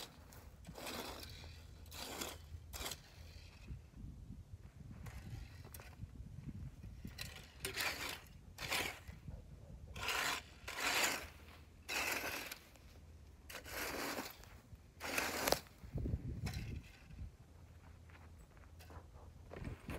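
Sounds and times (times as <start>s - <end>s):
rake scraping through dry grass: 0.0s - 4.0s, 4.8s - 18.0s.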